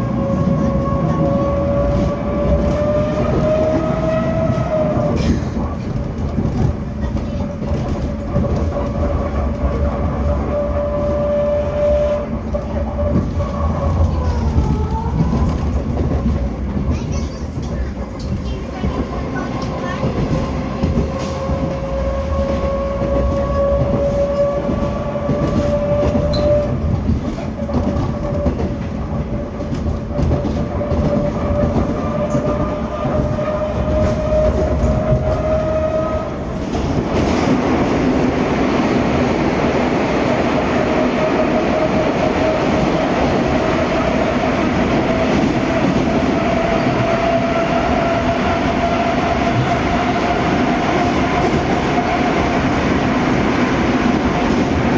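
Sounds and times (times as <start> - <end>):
rail joint clicks: 0.0 - 54.9
wheel-on-rail rumble: 0.0 - 54.9.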